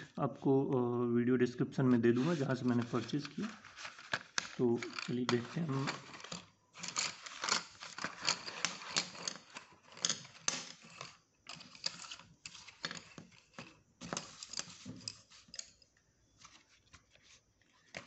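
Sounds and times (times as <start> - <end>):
wooden pencils clattering: 2.2 - 18.0.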